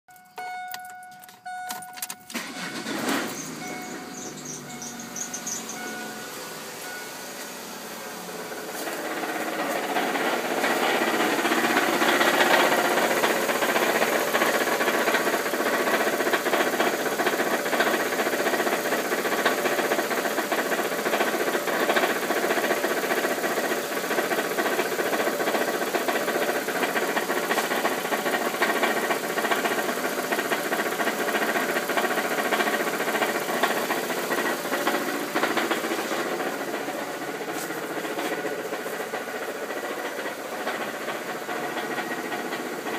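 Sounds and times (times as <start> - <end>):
car engine idling: 0.1 - 42.9
rapid engine belt rattle: 2.0 - 42.9.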